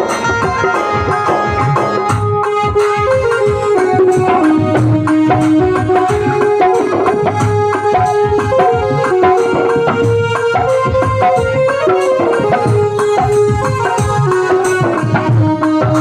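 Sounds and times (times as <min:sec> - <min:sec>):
hand drums rhythm: 0:00.0 - 0:16.0
keyboard melody: 0:00.0 - 0:16.0.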